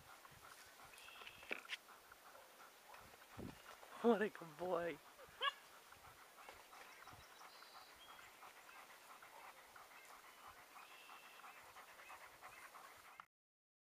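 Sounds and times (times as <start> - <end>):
dog panting: 0.0 - 13.3.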